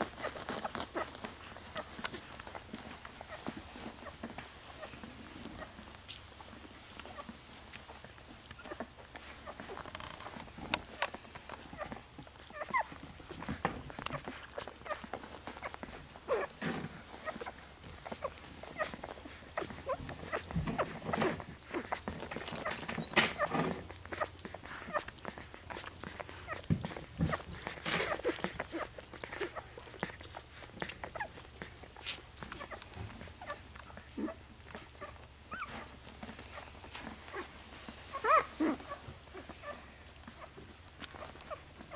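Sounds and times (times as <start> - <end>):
puppy squeaking or whimpering: 0.0 - 4.9, 7.9 - 37.5, 38.1 - 41.9
puppies suckling and smacking: 0.0 - 41.9.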